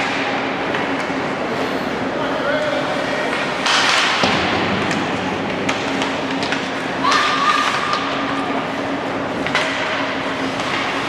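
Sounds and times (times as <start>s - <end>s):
constant hum: 0.0s - 11.0s
crowd and player voices: 0.0s - 11.0s.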